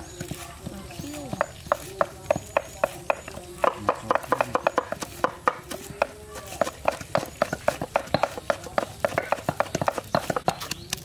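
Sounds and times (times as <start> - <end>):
knives chopping on wood: 0.0 - 11.0.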